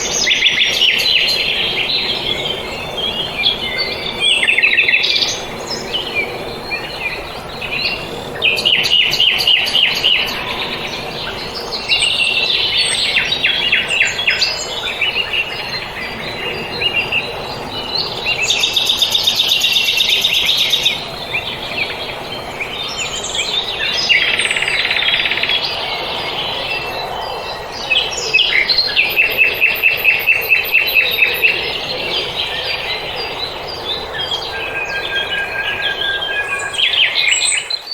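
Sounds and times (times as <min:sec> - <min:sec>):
songbirds chirping trills: 0:00.0 - 0:37.9
steady outdoor hiss: 0:00.0 - 0:37.9.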